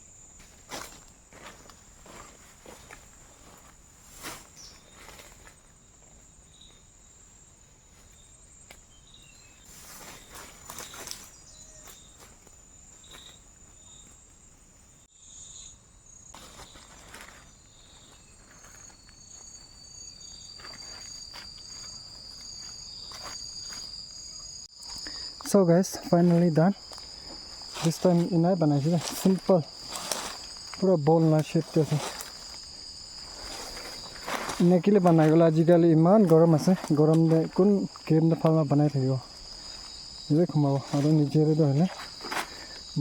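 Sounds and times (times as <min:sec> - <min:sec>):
crickets trilling: 0:00.0 - 0:43.0
lower insect call: 0:00.0 - 0:43.0
rustles of movement: 0:00.4 - 0:06.8, 0:09.6 - 0:14.9, 0:16.4 - 0:24.1, 0:24.8 - 0:43.0.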